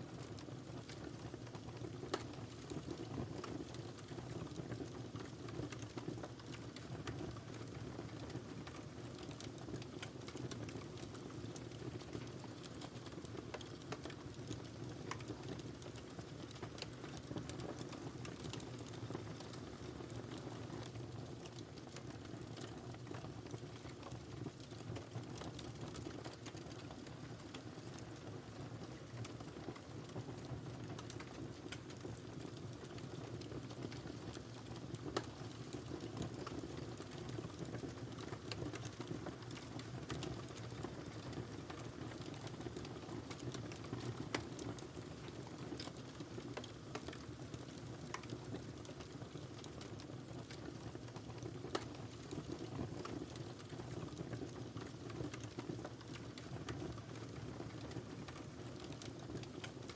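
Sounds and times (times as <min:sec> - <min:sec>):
fire crackles and pops: 0:00.0 - 0:59.9.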